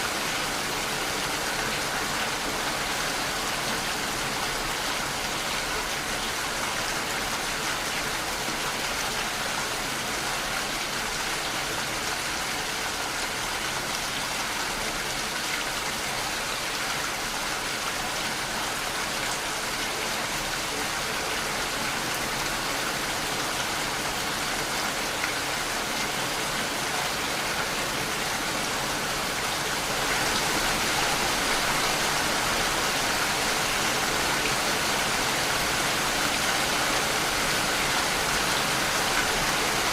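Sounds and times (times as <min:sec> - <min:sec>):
rain pattering on surfaces: 0:00.1 - 0:39.9.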